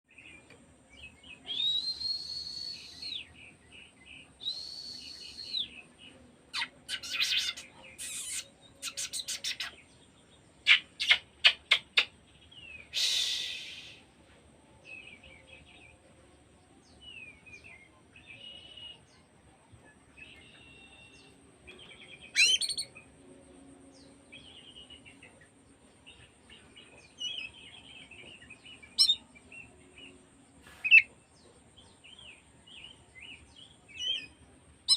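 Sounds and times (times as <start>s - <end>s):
bird singing varied song: 0.0s - 34.9s.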